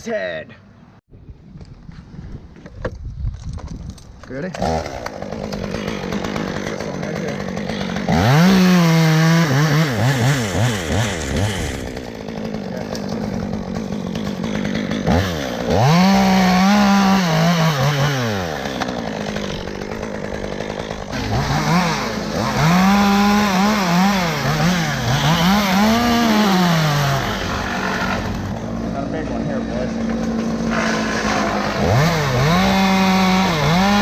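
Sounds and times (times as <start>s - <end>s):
chainsaw revving: 4.4s - 34.0s.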